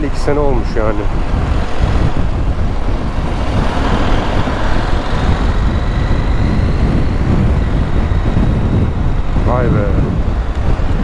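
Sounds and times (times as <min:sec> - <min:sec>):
motorcycle accelerating: 0:00.0 - 0:11.0
wind buffeting microphone: 0:00.0 - 0:11.0
faint thin whine: 0:01.6 - 0:11.0.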